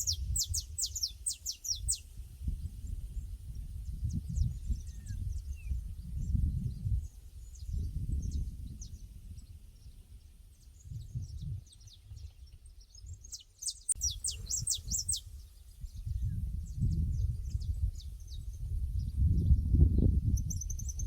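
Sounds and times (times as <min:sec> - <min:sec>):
small birds chirping: 0:00.0 - 0:21.0
wind on microphone: 0:00.0 - 0:21.0.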